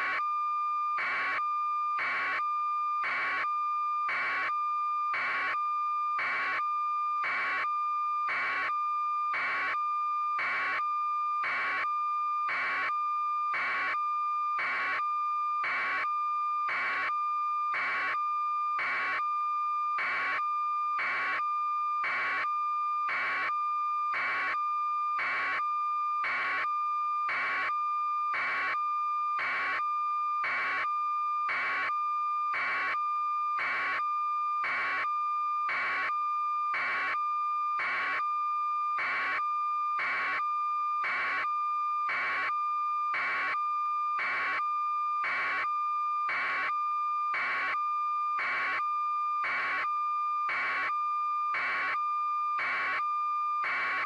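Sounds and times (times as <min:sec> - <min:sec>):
steady high alarm tone: 0:04.1 - 0:54.0.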